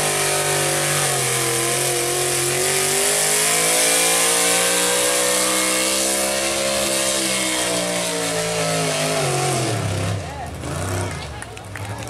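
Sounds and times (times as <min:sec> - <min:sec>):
truck engine roaring at full load: 0:00.0 - 0:12.0.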